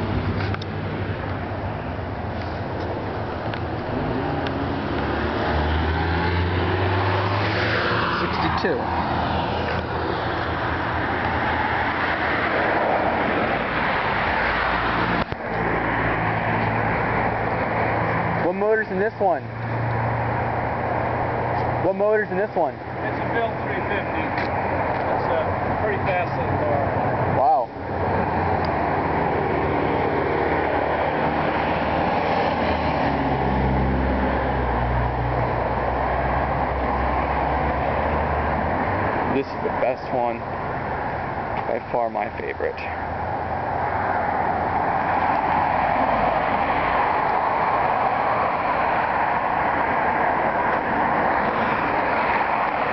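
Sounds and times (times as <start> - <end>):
motor vehicle hum: 0.0 - 52.9.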